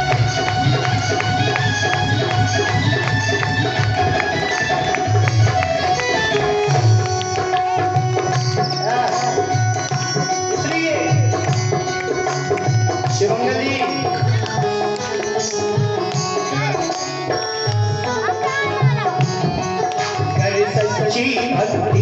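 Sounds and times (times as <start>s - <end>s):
bending melody line: 0.0s - 22.0s
hand drum rhythm: 0.0s - 22.0s.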